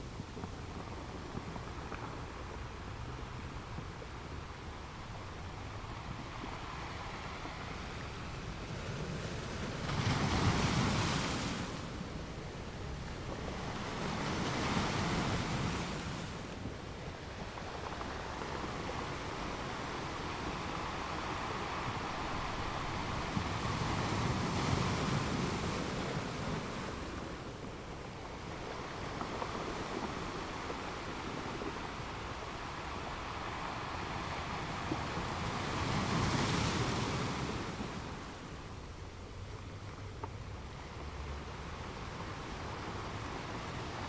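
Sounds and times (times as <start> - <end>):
ocean waves breaking: 4.0 - 39.4.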